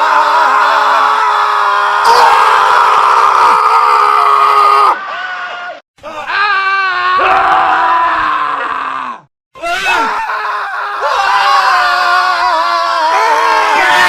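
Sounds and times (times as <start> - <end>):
man screaming: 0.0 - 14.0
men screaming together: 0.0 - 14.0.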